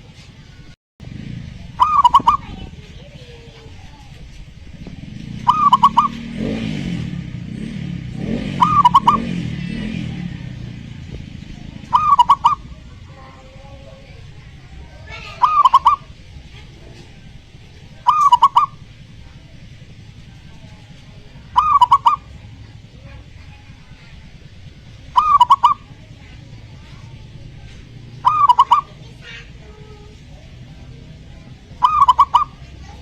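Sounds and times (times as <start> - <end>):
dove cooing: 1.2 - 6.8, 8.3 - 10.8, 11.4 - 33.0.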